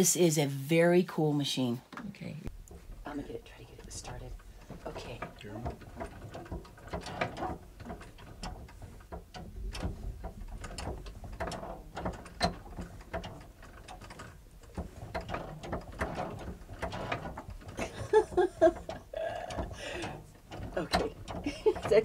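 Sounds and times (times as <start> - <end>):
treadle sewing machine clattering: 2.7 - 22.0.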